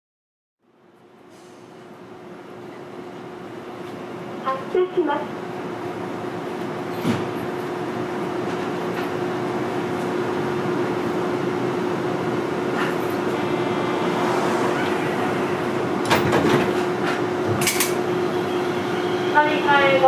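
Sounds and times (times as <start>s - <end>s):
tram equipment humming: 0.6s - 20.0s.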